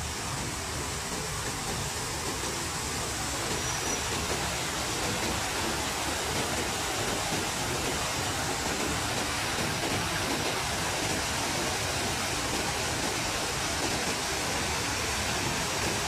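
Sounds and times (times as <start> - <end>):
city traffic hum: 0.0 - 16.0
fountain water rushing: 0.0 - 16.0.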